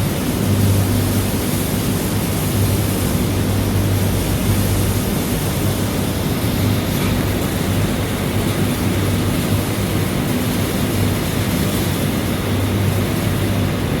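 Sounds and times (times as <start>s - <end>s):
machine drone with hiss and hum: 0.0s - 14.0s.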